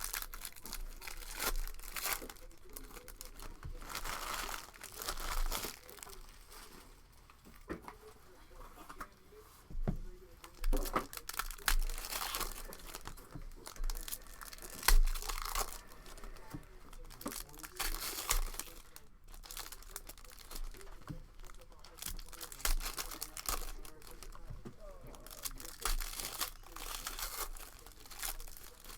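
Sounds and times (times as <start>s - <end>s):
wrapping crinkling and tearing: 0.0s - 8.9s, 10.1s - 28.9s.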